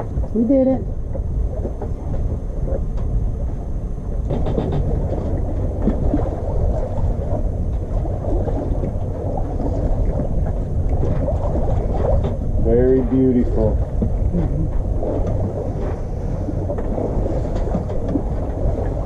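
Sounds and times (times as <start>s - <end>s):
water washing along hull: 0.0s - 19.0s
wind buffeting microphone: 0.0s - 19.0s.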